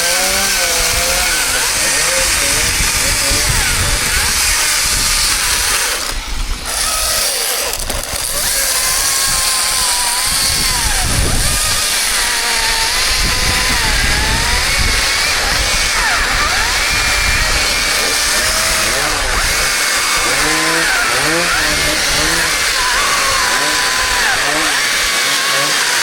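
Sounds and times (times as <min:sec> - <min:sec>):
chainsaw running: 0:00.0 - 0:26.0.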